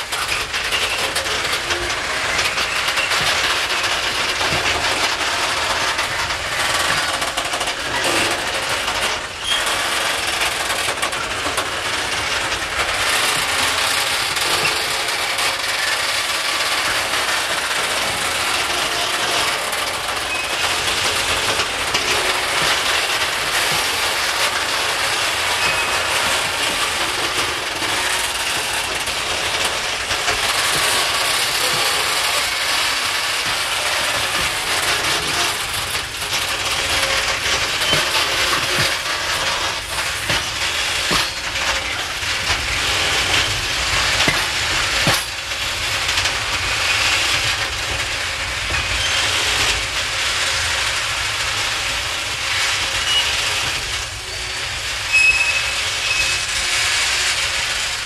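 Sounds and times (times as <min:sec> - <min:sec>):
rumble and rattle of wagons: 0:00.0 - 0:58.0
train wheels clicking over rail joints: 0:00.0 - 0:58.0.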